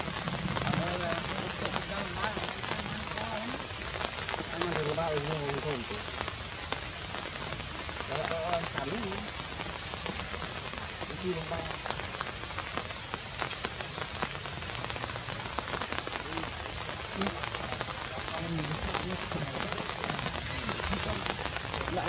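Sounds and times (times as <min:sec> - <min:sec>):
raindrops clicking: 0:00.0 - 0:22.0
steady rain: 0:00.0 - 0:22.0.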